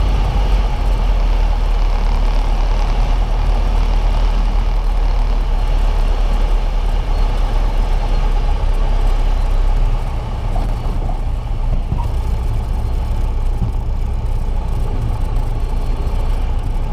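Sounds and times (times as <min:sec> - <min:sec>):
propeller plane engine running: 0:00.0 - 0:16.9.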